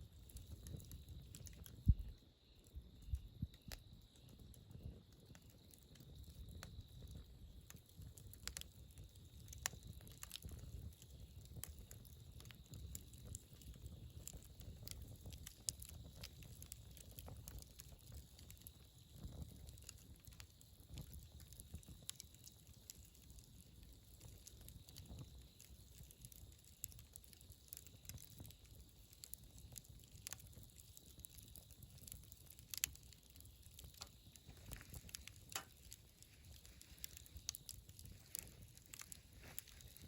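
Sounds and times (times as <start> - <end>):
campfire crackling: 0.0 - 40.0
sharp pops of fire: 0.3 - 40.0.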